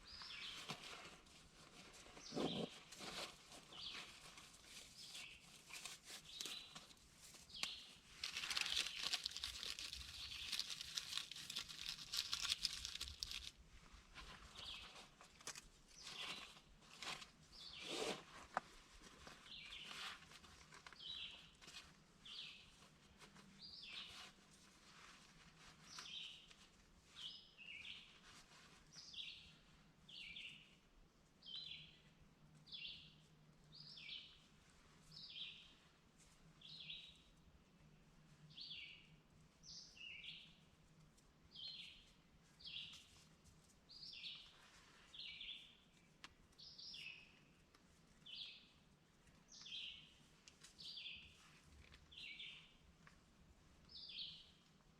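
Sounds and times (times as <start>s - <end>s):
songbird chirping: 0.0s - 13.6s, 14.2s - 18.2s, 19.2s - 24.4s, 25.6s - 40.8s, 41.5s - 53.2s, 53.8s - 54.9s.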